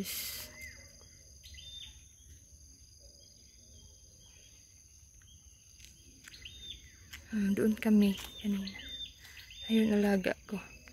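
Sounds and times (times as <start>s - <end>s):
bird chirps: 0.0s - 10.9s
insects trilling: 0.0s - 10.9s.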